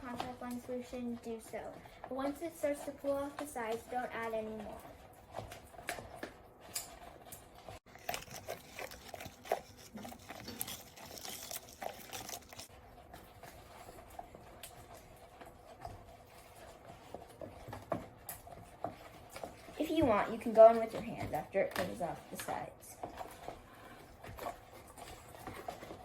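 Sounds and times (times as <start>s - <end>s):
spoon stirring sticky slime: 0.0s - 26.0s.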